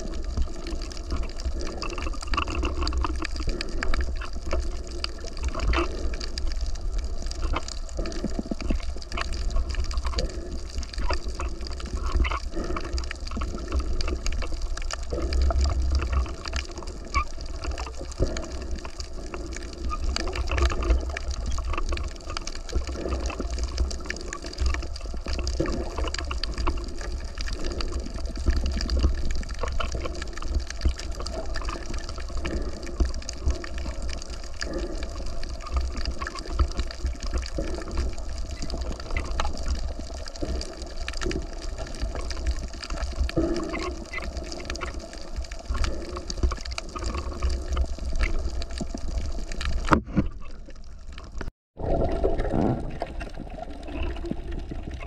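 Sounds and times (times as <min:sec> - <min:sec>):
sea water sloshing and gushing: 0:00.0 - 0:55.0
small clicks: 0:00.3 - 0:51.5.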